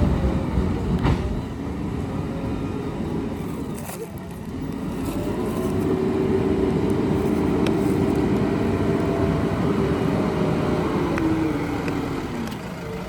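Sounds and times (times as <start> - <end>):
diesel engine whining under load: 0.0 - 13.0.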